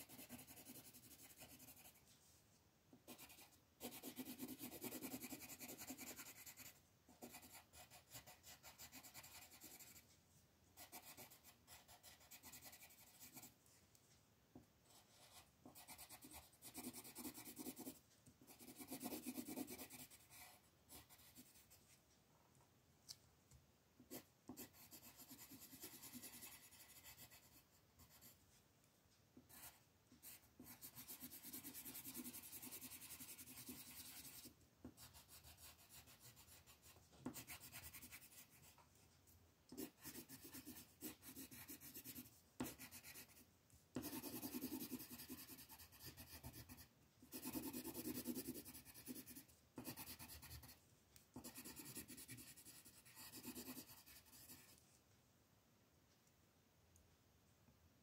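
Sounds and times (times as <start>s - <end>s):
pencil scratching across paper: 0.0s - 2.1s, 3.0s - 10.2s, 10.8s - 13.6s, 14.9s - 22.0s, 24.1s - 28.4s, 29.4s - 39.1s, 39.7s - 50.8s, 51.4s - 54.8s.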